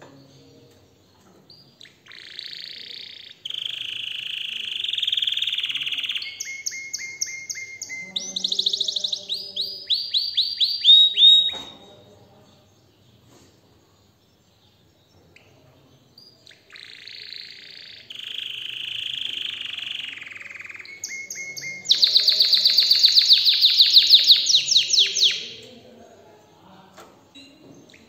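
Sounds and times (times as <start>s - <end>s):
canary singing trills: 0.0s - 28.0s.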